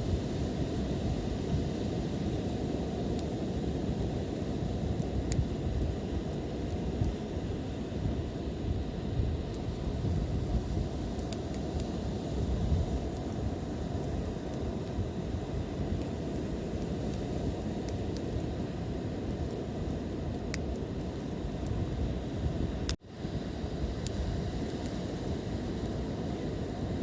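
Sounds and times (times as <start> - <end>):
fire crackles and pops: 0.0 - 27.0
low rumble of flames: 0.0 - 27.0.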